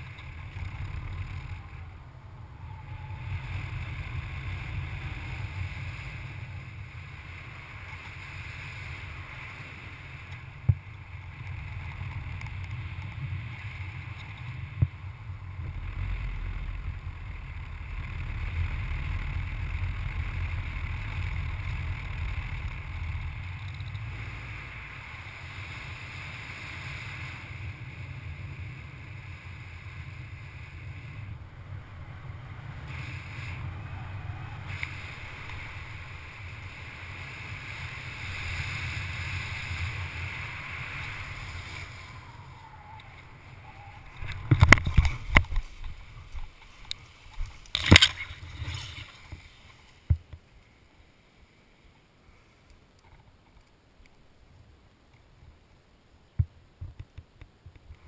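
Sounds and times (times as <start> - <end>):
wind buffeting microphone: 0.0 - 50.4.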